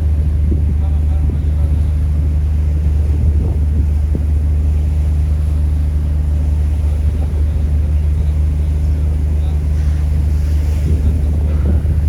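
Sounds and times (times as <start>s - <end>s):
ferry engine droning: 0.0s - 12.0s.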